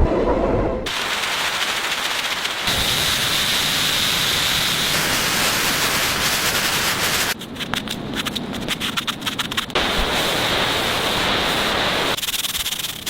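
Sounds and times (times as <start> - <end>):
crackling stuttering scraping: 0.1 - 13.0
hissing rush of noise: 0.9 - 13.0.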